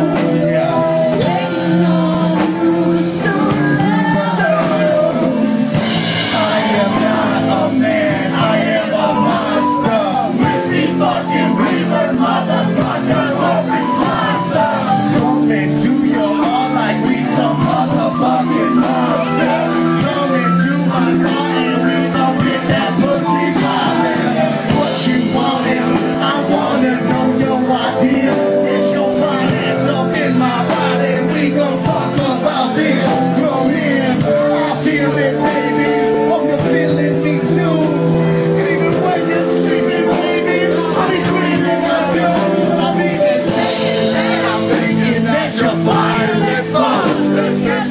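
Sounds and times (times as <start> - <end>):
drums beating: 0.0 - 47.9
live band playing: 0.0 - 47.9.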